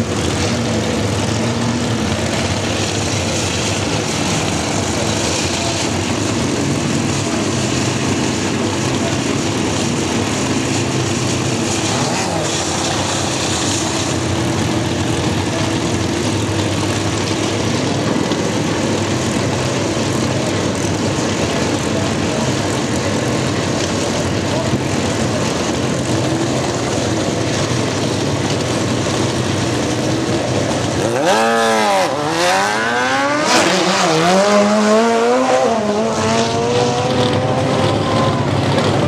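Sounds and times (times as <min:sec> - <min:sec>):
motorcycle engines idling: 0:00.0 - 0:33.5, 0:37.0 - 0:39.0.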